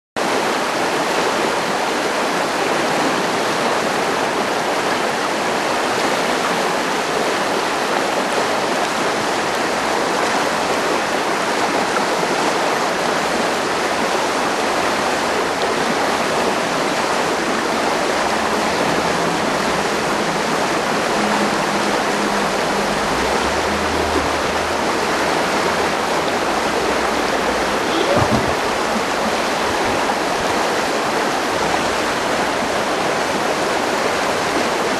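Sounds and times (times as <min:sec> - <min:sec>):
river flowing over rocks: 0:00.2 - 0:34.9.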